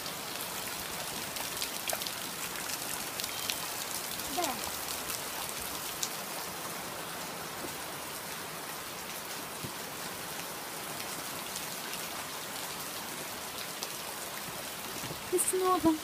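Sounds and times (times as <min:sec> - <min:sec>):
rain falling on foliage: 0:00.0 - 0:16.0.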